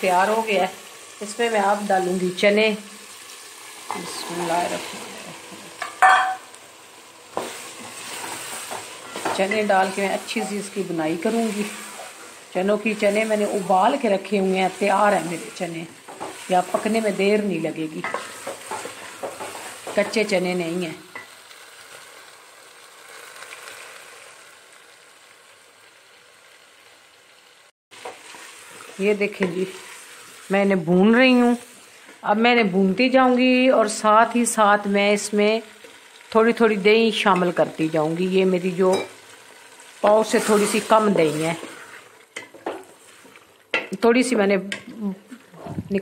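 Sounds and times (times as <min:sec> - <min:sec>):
food sizzling in a pot: 0:00.0 - 0:46.0.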